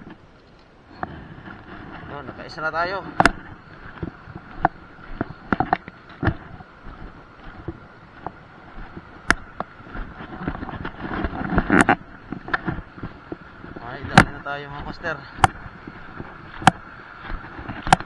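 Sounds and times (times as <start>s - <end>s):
shallow water: 0.0s - 18.0s
wind: 0.0s - 18.0s.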